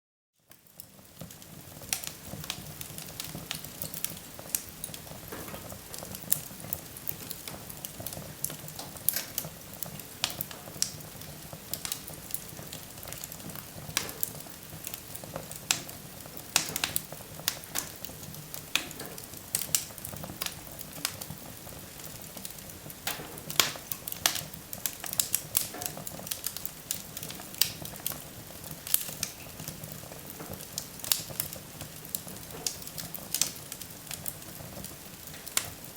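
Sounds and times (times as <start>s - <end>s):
wood fire crackling: 0.4s - 35.9s
fire pops and snaps: 0.5s - 35.9s.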